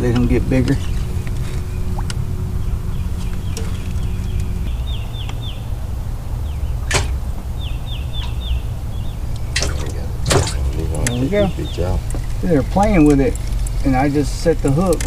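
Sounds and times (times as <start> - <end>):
low hum: 0.0 - 14.3.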